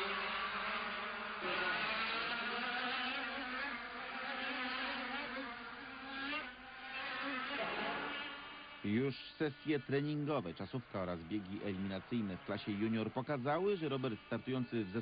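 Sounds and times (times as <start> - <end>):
racing kart engines buzzing: 0.0 - 15.0.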